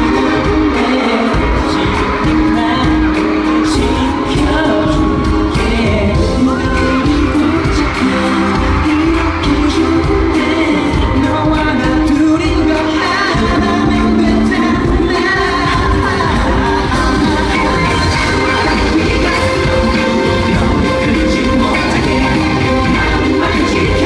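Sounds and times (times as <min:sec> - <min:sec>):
heavy bass backing track: 0:00.0 - 0:24.0
man singing into a microphone: 0:00.0 - 0:24.0.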